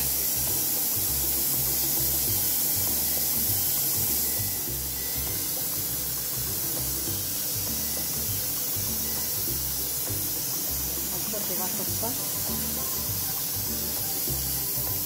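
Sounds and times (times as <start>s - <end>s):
background music with pulsing beat: 0.0s - 15.0s
gas burner hissing: 0.0s - 15.0s.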